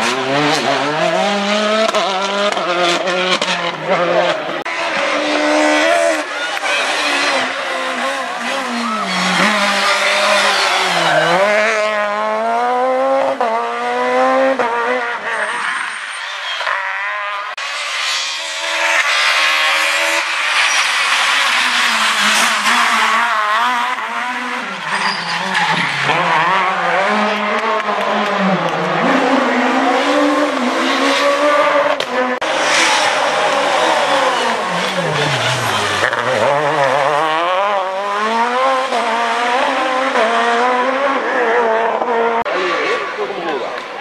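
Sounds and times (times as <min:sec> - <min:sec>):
rally car engine revving: 0:00.0 - 0:44.0.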